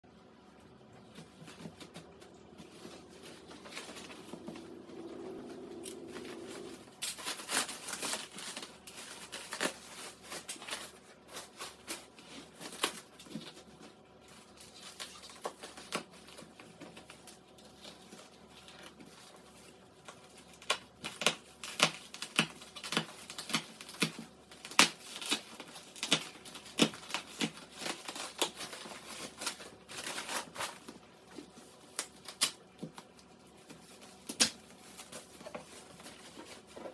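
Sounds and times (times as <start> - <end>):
packaging crinkling and tearing: 5.7 - 36.9.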